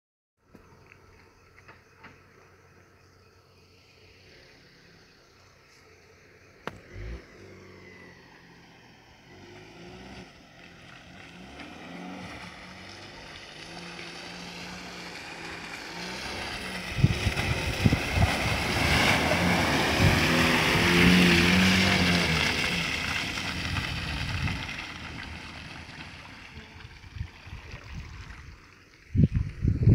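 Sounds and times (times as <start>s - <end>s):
vehicle engine approaching: 1.0s - 29.9s.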